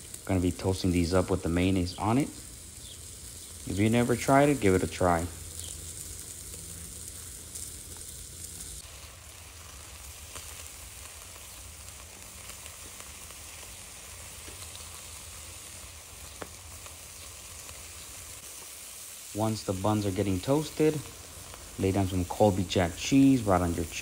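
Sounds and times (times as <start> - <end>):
chicken sizzling on a grill: 0.0 - 24.0.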